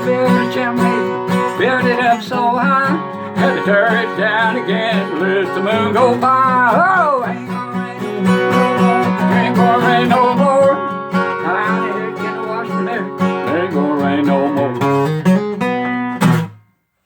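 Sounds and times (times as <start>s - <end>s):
person singing: 0.0s - 15.1s
strummed acoustic guitar: 0.0s - 17.0s.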